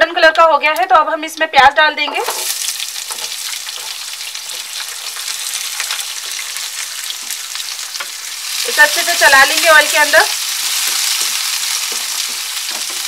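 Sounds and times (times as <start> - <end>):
onions sizzling in hot oil: 2.0 - 13.0.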